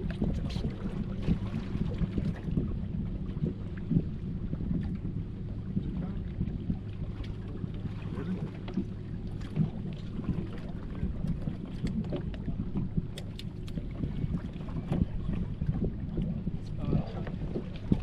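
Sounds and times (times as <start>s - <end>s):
trolling motor humming: 0.0s - 18.0s
water slapping against boat hull: 0.0s - 18.0s
wind on microphone: 0.0s - 18.0s.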